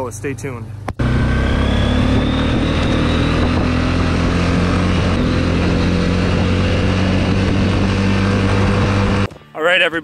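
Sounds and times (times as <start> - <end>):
quad engine running: 0.9 - 9.3.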